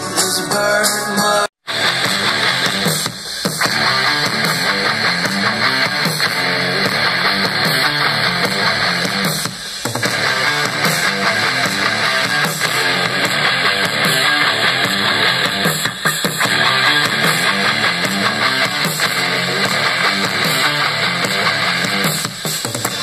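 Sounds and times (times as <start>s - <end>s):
rock song on small speaker: 0.0s - 23.0s.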